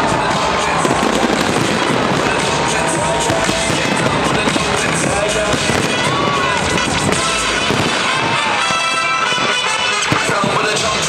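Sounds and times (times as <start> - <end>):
fireworks bursting and crackling: 0.0 - 11.0
music playing: 0.0 - 11.0.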